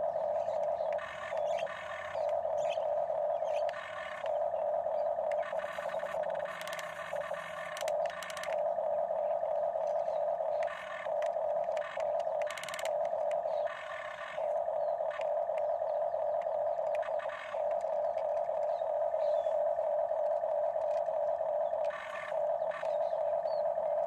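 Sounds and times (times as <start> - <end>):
toy electric motors whining: 0.0 - 24.0.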